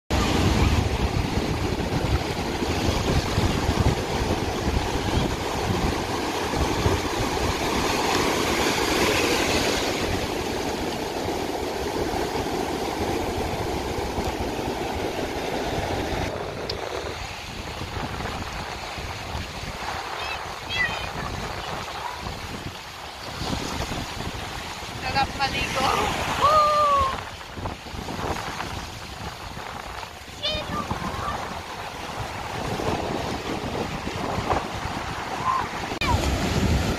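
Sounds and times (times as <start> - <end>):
ocean surf breaking: 0.1 - 36.9
wind on microphone: 0.1 - 36.9.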